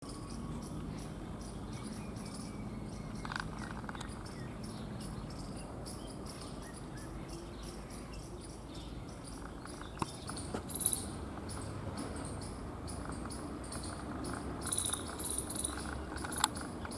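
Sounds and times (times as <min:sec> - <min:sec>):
insects chirping: 0:00.1 - 0:16.9.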